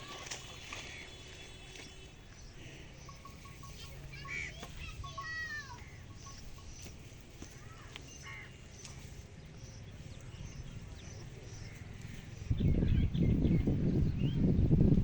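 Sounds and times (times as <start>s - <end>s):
birds calling: 0.0s - 14.6s.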